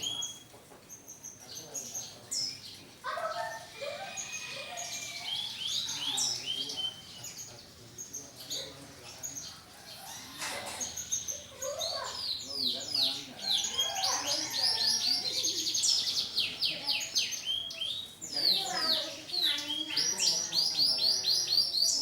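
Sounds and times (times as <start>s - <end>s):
canaries singing and chirping: 0.0s - 22.0s.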